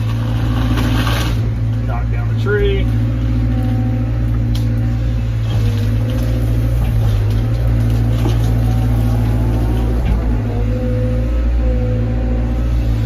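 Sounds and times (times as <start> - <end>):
excavator engine drone: 0.0 - 13.0
hydraulics working under load: 0.0 - 13.0.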